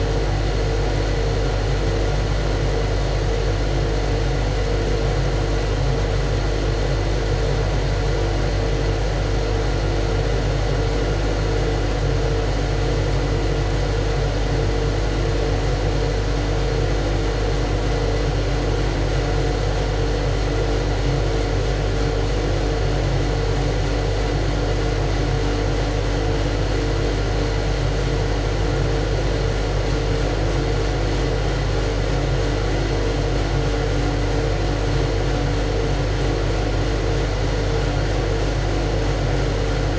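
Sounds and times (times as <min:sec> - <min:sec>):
engine room machinery droning: 0:00.0 - 0:39.9.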